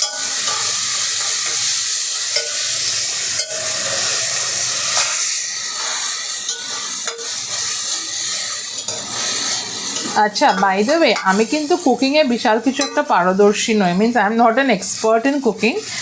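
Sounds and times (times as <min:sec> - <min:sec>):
spoon stirring: 0:00.0 - 0:13.6
onions sizzling in hot oil: 0:00.0 - 0:16.0.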